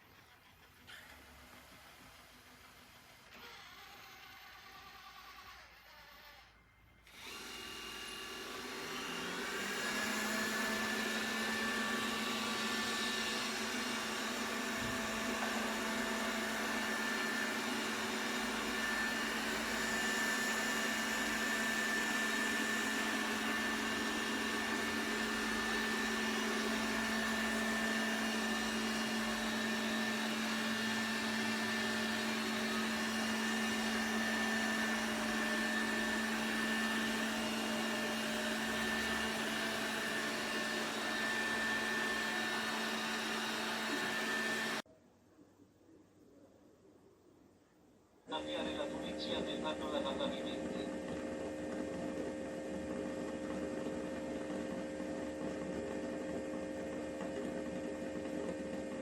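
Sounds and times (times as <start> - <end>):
robot vacuum motor whining: 0.2 - 44.8, 48.3 - 54.8.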